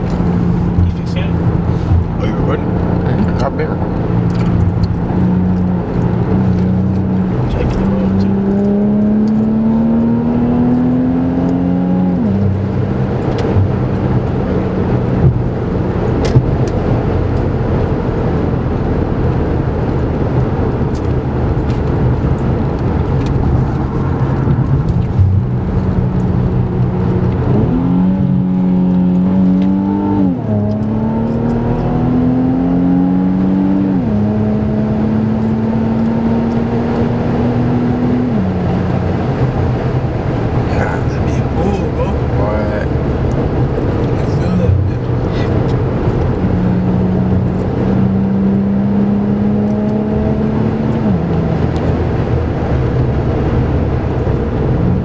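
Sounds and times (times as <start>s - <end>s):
car engine accelerating: 0.0s - 55.0s
road noise: 0.0s - 55.0s.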